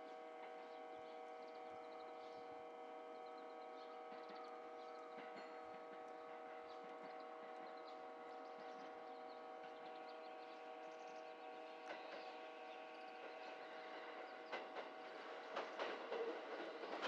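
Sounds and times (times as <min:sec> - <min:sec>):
train hum: 0:00.0 - 0:17.0.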